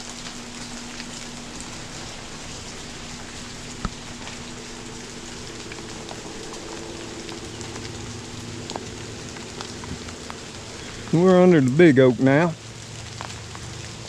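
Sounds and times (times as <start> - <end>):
raindrops ticking close by: 0.0 - 14.0
steady rain falling: 0.0 - 14.0.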